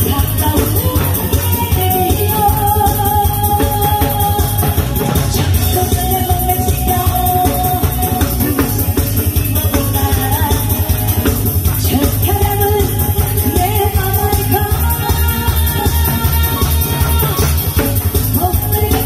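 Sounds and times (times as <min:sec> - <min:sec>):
amplified backing music: 0:00.0 - 0:19.0
woman singing into microphone: 0:00.0 - 0:19.0.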